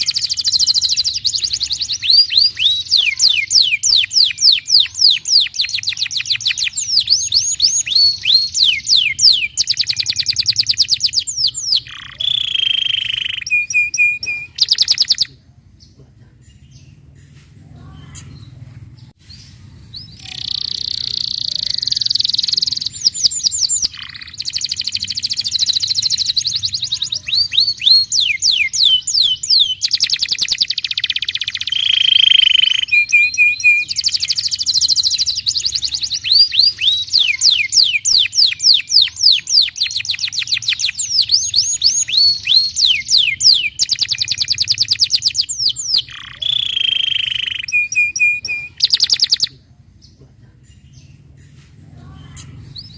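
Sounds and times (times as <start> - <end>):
canary singing: 0.0 - 15.9, 17.8 - 49.6.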